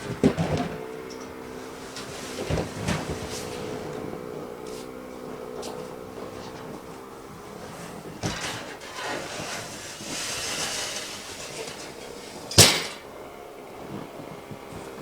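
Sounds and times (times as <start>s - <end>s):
sled scraping: 0.0s - 15.0s.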